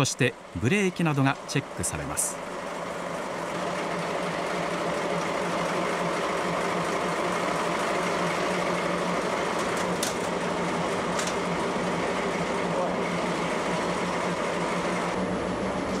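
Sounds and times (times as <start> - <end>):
locomotive engine idling: 0.0 - 16.0.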